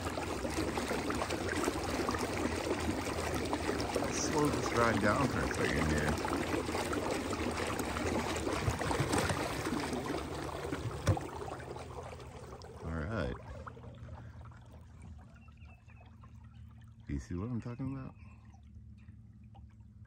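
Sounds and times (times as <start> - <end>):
water rushing along kayak hull: 0.0 - 17.6.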